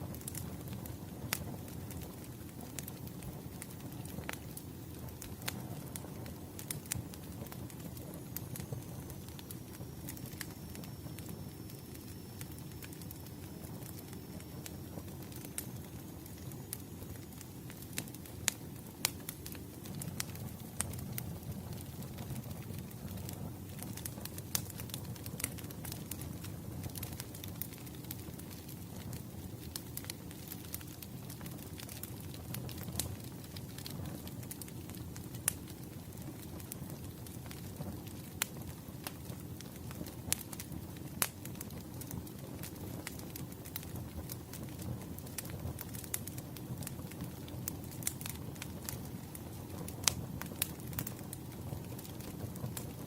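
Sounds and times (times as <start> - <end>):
fire crackling and popping: 0.0 - 53.0
wood fire rumble: 0.0 - 53.0.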